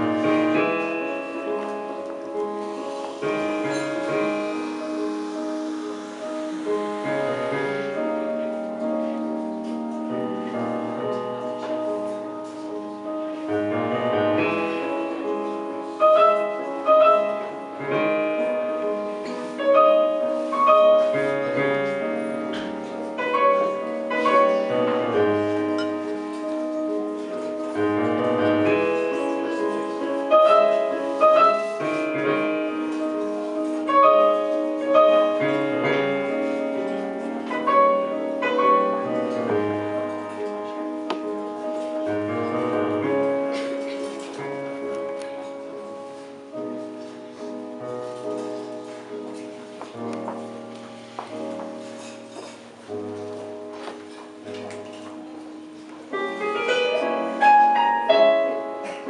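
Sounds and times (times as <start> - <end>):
electronic keyboard piano piece: 0.0 - 59.0.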